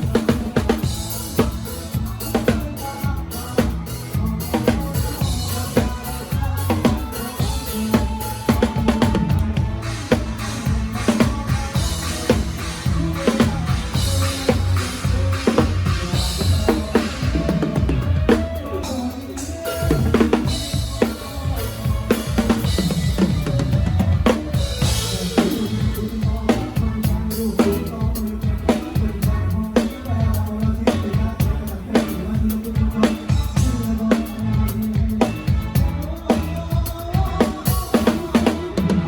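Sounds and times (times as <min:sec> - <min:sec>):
band playing: 0:00.0 - 0:39.0
bass drum and snare groove: 0:00.0 - 0:39.0.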